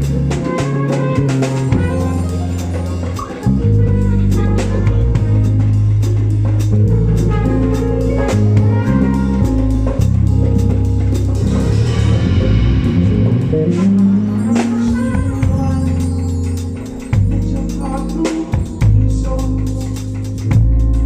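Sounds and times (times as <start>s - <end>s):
bass notes: 0.0s - 21.0s
drum kit beat: 0.0s - 21.0s
live band playing: 0.0s - 21.0s.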